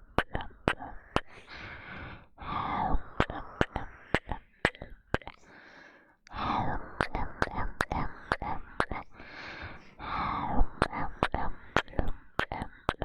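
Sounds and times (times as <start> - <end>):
soft breathy hushes: 0.4 - 12.9.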